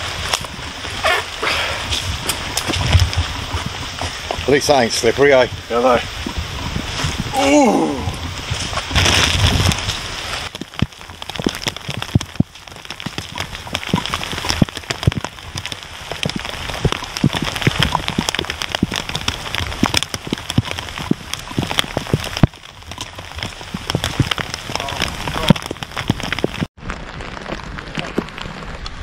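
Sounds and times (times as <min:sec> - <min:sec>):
rain falling: 0:00.0 - 0:29.0
raindrops tapping near microphone: 0:00.0 - 0:29.0.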